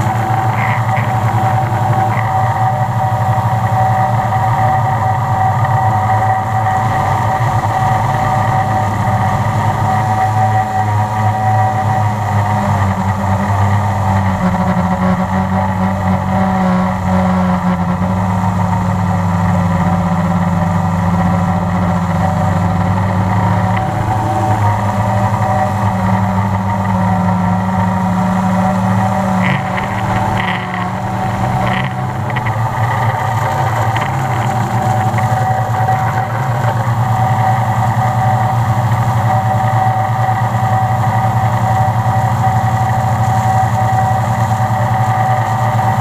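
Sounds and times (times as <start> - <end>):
drone propellers buzzing: 0.0 - 46.0.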